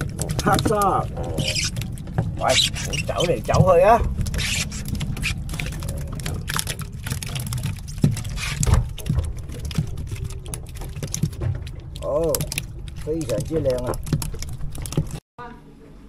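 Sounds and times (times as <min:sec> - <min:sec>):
fish flapping on plastic deck: 0:00.0 - 0:15.2
low rumble: 0:00.0 - 0:15.2.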